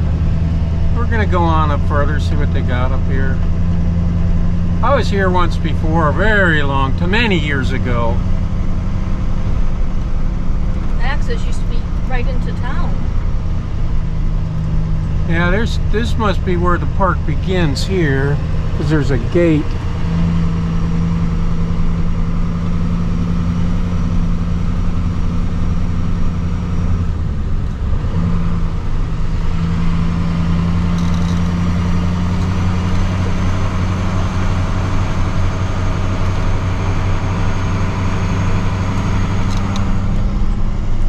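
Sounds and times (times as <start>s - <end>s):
road noise: 0.0s - 41.0s
truck engine running: 0.0s - 41.0s.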